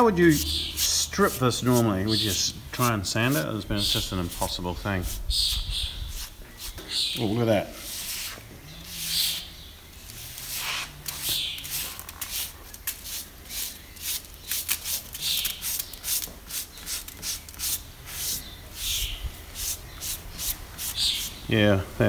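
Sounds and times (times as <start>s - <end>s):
brush scrubbing wood: 0.0s - 9.5s, 10.1s - 21.4s.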